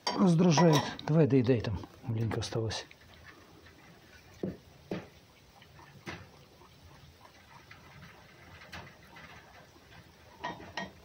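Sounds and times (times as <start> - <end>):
fox eating: 1.7 - 11.0.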